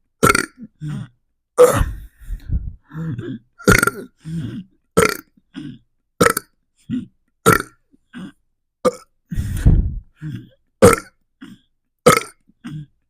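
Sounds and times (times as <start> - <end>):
person burping: 0.2 - 2.1, 2.8 - 13.0.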